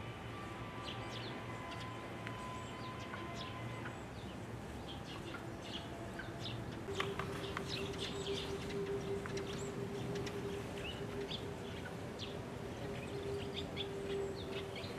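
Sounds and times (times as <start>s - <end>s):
songbirds chirping: 0.0s - 14.9s
steady low hum: 0.0s - 14.9s.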